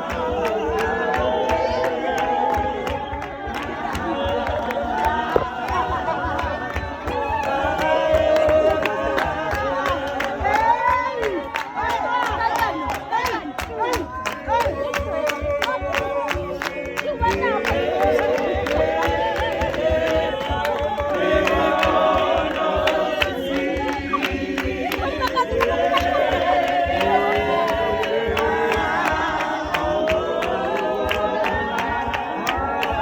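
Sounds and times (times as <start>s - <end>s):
group of voices singing: 0.0s - 33.0s
sharp rhythmic beats: 0.0s - 33.0s.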